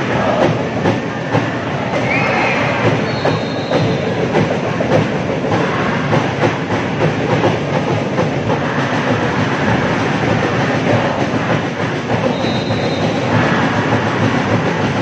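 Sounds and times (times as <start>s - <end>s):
crowd chanting and cheering: 0.0s - 15.0s.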